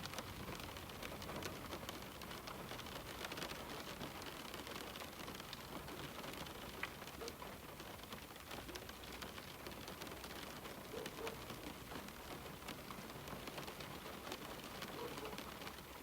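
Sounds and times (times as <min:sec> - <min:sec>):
rain pattering on a window: 0:00.0 - 0:16.0.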